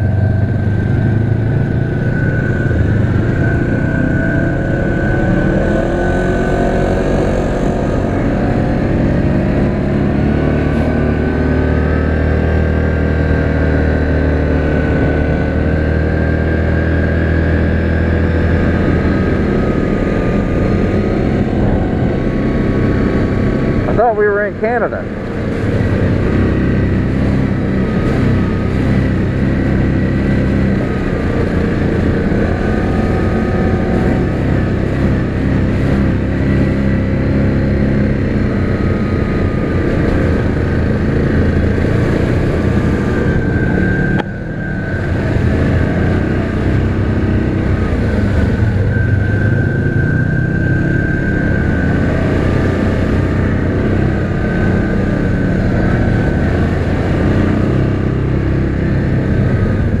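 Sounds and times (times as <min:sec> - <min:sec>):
atv engine running: 0:00.0 - 1:00.0
high wavering whine: 0:00.0 - 1:00.0.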